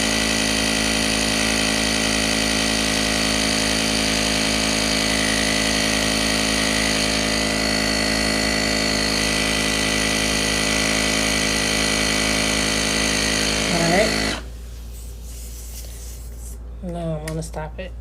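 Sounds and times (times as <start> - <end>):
electric tire inflator pump running: 0.0 - 14.6.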